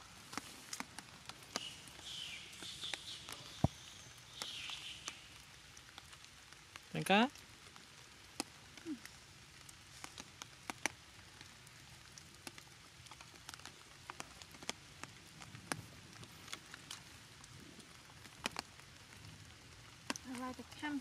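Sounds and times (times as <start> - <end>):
faint steady hiss: 0.0 - 21.0
raindrops tapping on plastic umbrella: 0.0 - 21.0.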